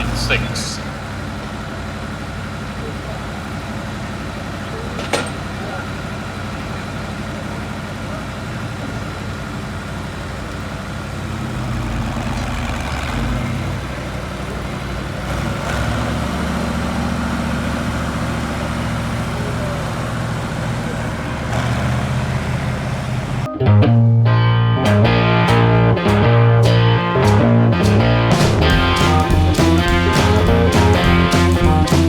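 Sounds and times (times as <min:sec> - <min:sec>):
tractor diesel engine under load: 0:00.0 - 0:23.5, 0:26.8 - 0:32.0.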